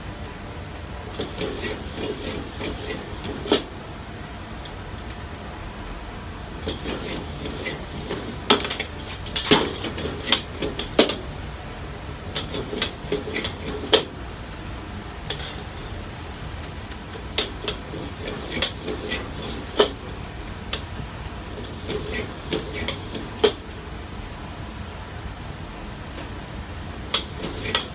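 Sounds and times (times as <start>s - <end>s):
gas burner rumble: 0.0s - 27.9s.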